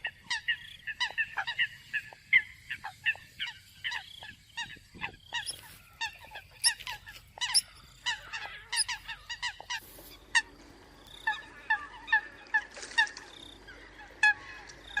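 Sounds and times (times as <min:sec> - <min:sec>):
coots honking calls: 0:00.0 - 0:15.0.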